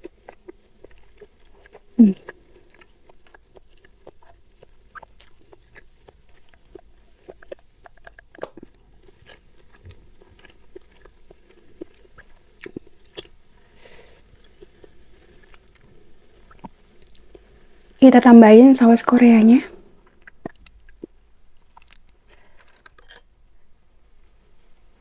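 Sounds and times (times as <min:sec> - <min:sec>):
chewing crispy food: 0:00.0 - 0:18.0, 0:20.0 - 0:25.0.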